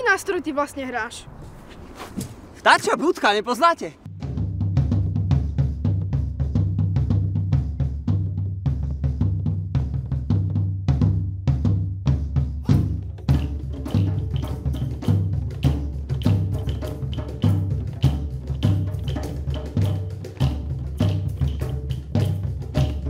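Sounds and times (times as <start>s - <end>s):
fast drum strokes: 4.1s - 23.0s.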